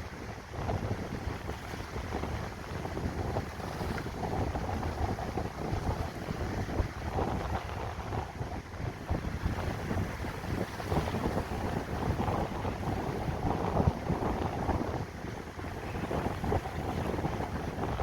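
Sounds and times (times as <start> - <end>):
choppy water: 0.0 - 18.0
wind buffeting microphone: 0.0 - 18.0.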